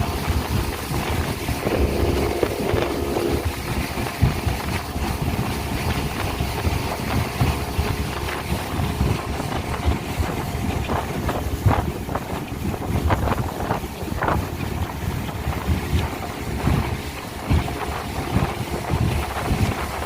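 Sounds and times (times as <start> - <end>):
speedboat engine running: 0.0 - 20.0
wind and water rushing: 0.0 - 20.0.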